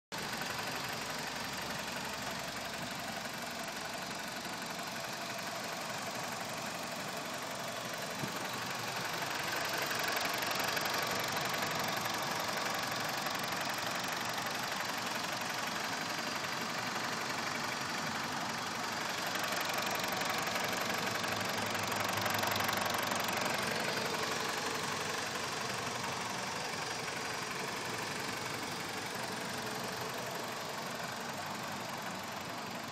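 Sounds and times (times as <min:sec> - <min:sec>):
engine ticking noise: 0:00.1 - 0:32.9
car engine running: 0:00.2 - 0:32.9.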